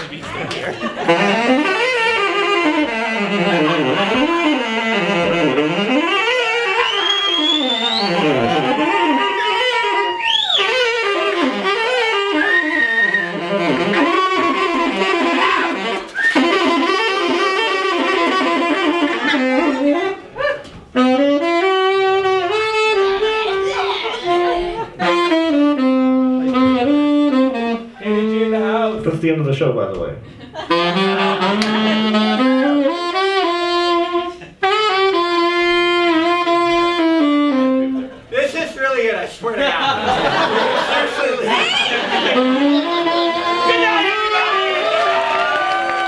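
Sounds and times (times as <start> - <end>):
tenor saxophone solo: 0.9 - 29.0, 30.6 - 38.3, 41.4 - 46.0.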